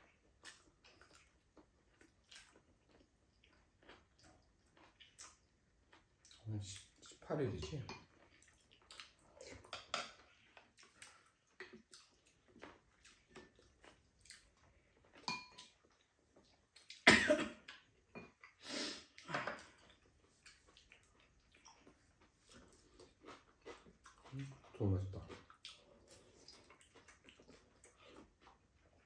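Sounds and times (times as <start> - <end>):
people chewing: 0.0 - 29.0.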